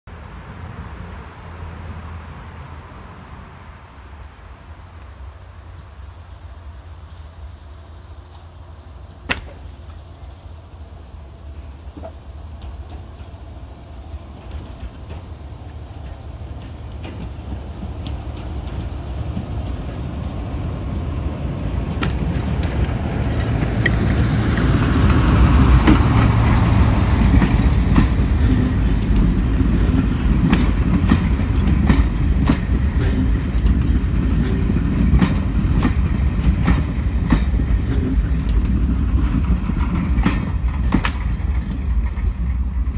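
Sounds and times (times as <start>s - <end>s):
diesel locomotive engine passing: 0.1s - 42.9s
train wheels clicking over rail joints: 8.2s - 42.9s.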